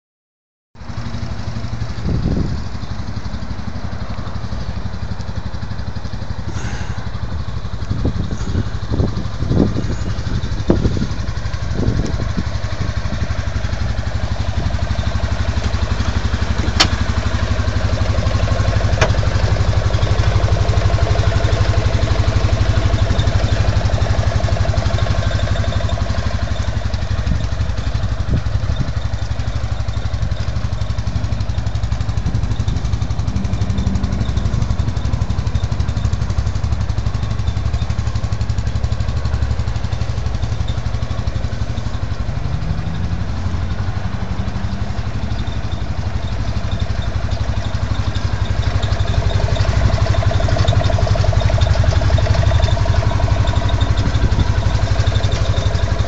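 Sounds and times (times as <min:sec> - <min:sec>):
engine idling: 0:00.8 - 0:56.0
sharp ticks: 0:02.6 - 0:56.0.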